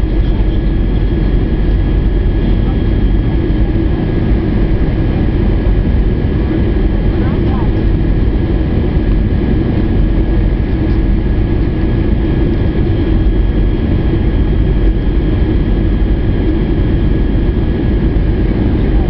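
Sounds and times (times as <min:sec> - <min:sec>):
aircraft engine and airflow rumble: 0:00.0 - 0:19.0.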